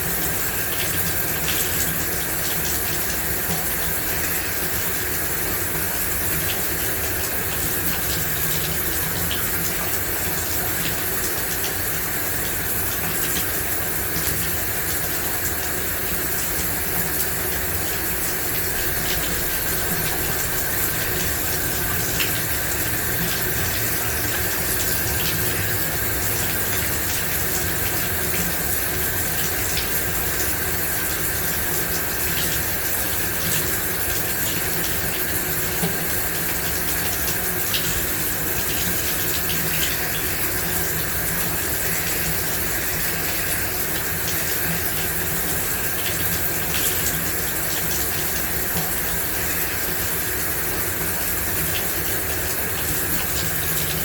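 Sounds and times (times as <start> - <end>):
shower water spraying: 0.1 - 54.0.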